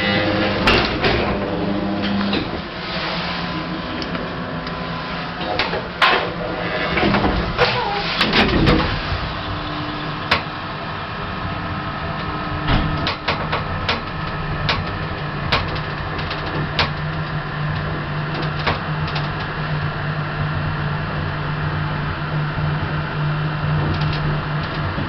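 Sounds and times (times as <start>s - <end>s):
lift machinery humming: 0.0s - 25.0s.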